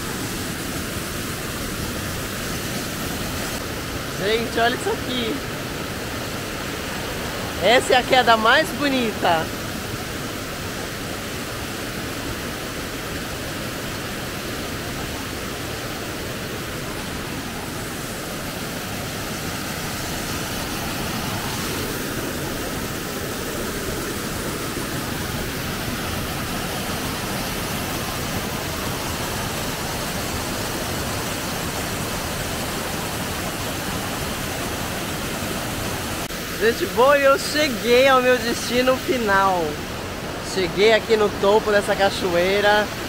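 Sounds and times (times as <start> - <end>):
waterfall rushing over rocks: 0.0 - 43.0.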